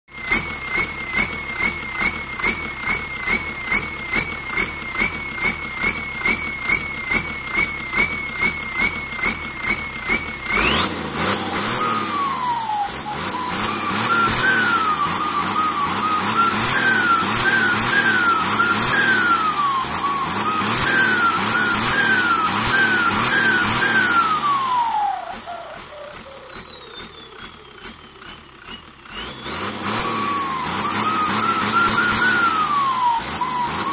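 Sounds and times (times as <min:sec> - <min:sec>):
tractor engine revving: 0:00.1 - 0:33.9
turbo whine: 0:00.4 - 0:33.9.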